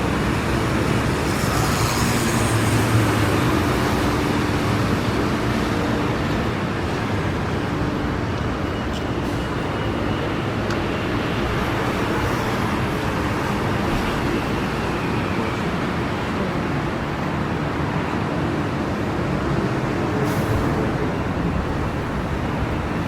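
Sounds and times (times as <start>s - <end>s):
traffic on wet streets: 0.0s - 23.0s.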